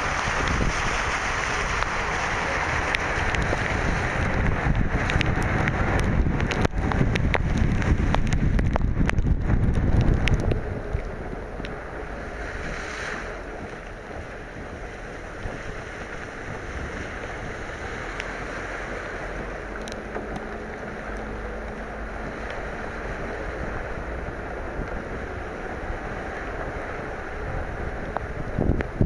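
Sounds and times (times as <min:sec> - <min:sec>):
car driving through water: 0:00.0 - 0:29.0
rain and rushing water: 0:00.0 - 0:29.0
wind noise on microphone: 0:00.0 - 0:29.0.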